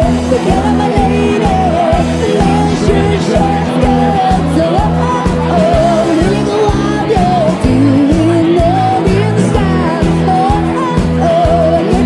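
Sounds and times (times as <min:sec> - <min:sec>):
live rock band playing: 0:00.0 - 0:12.0
person singing: 0:00.0 - 0:12.0
steady drum beat: 0:00.0 - 0:12.0.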